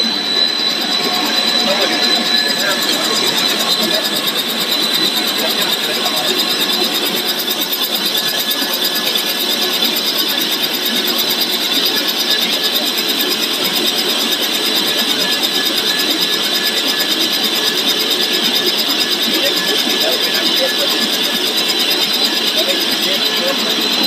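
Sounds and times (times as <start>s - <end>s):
fast dense machine rattle: 0.0s - 24.0s
high machine whine: 0.0s - 24.0s.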